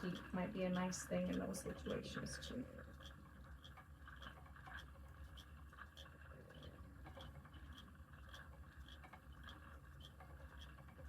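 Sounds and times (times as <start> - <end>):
low steady hum: 0.0 - 11.0
spinning wheel clicking: 0.0 - 11.0.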